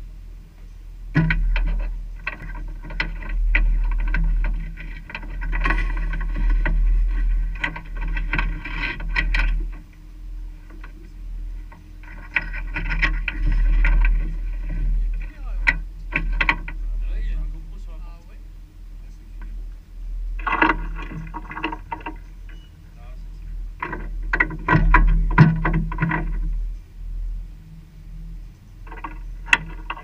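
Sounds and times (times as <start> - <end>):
steady low rumble: 0.0 - 30.0
irregular clicks and knocks: 0.6 - 10.0, 10.6 - 17.4, 19.2 - 26.9, 28.7 - 30.0.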